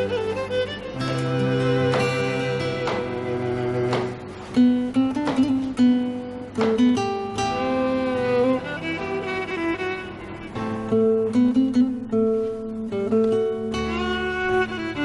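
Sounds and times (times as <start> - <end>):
slow plucked string melody: 0.0 - 15.0.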